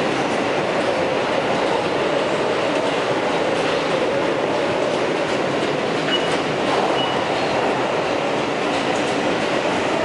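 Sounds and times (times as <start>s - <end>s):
subway car wheels rumbling on rail: 0.0s - 10.0s.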